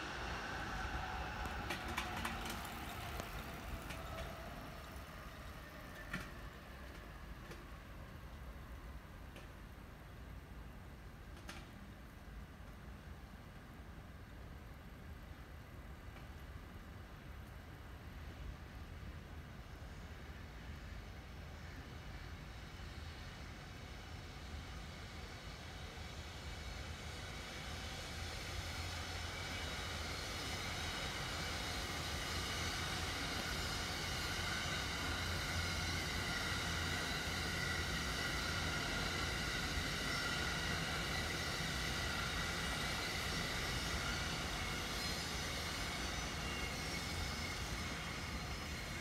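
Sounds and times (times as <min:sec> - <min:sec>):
train passing with high whine: 0:00.0 - 0:49.0.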